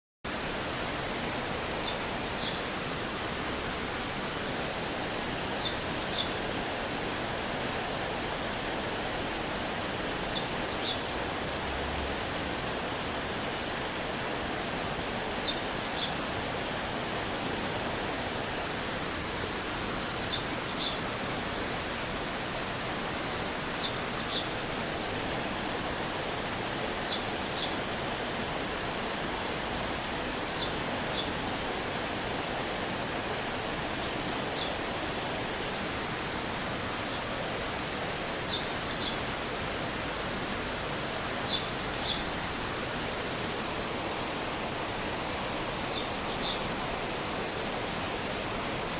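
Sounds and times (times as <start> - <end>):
stream water running over rocks: 0.3 - 48.9.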